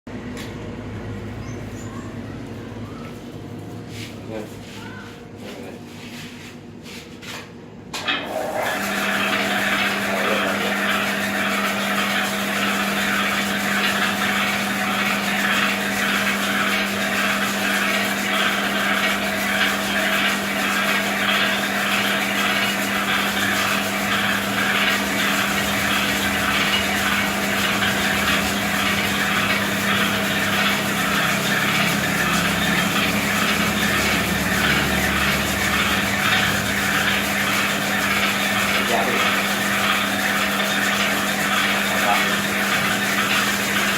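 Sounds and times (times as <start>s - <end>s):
winding machine motor hum: 8.0s - 43.9s.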